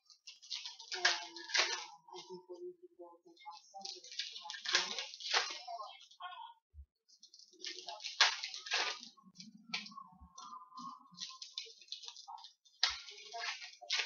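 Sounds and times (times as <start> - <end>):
cards rustling: 0.0 - 2.4, 3.4 - 6.0, 7.1 - 14.0
wrapper crinkling: 0.0 - 2.4, 3.4 - 6.1, 7.1 - 14.0.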